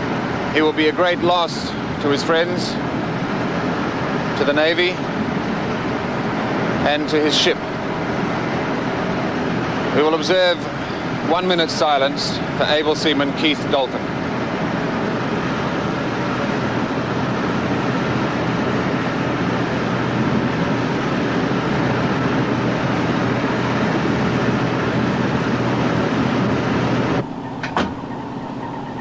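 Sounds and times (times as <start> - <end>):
boat engine and wind rumbling: 0.0 - 29.0
low hum: 1.7 - 29.0.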